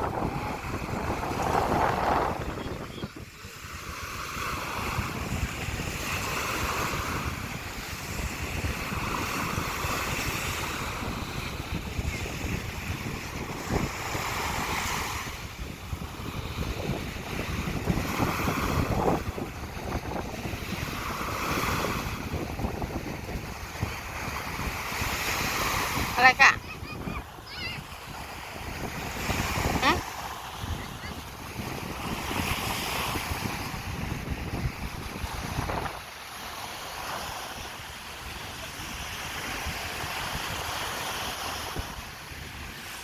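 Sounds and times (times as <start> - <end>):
sea waves washing onto shore: 0.0 - 43.0
wind buffeting microphone: 0.0 - 43.0.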